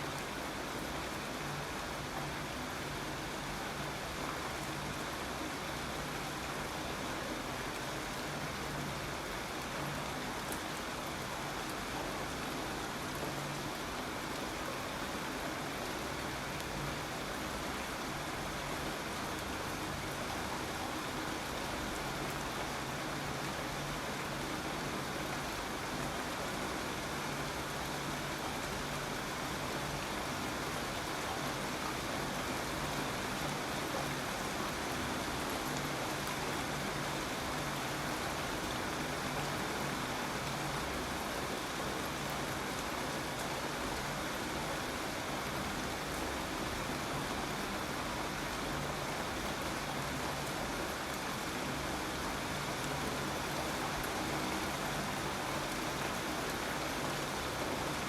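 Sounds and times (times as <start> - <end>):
rain pattering: 0.1 - 58.0.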